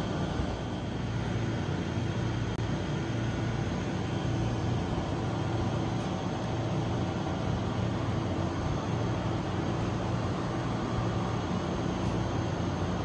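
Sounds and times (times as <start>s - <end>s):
vending machine compressor hum: 0.0s - 13.0s.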